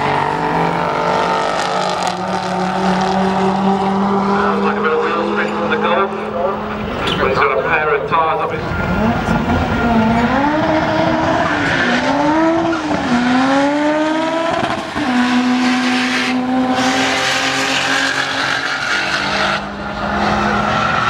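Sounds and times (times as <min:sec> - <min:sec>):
car engine at full throttle: 0:00.0 - 0:21.0.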